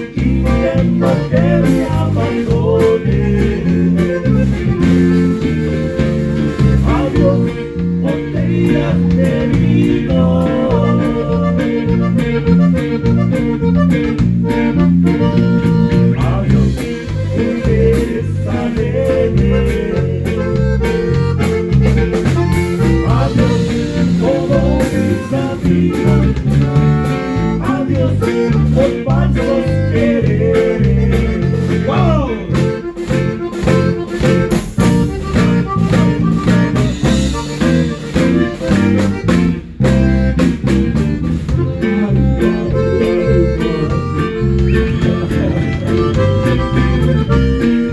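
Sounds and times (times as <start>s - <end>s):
live band music: 0.0s - 47.9s
repeating bass line: 0.0s - 47.9s.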